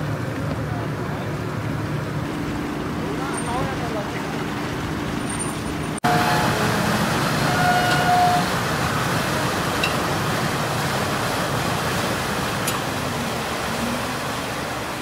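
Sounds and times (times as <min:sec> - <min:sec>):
boat engine running: 0:00.0 - 0:15.0
propeller wash churning water: 0:00.0 - 0:15.0.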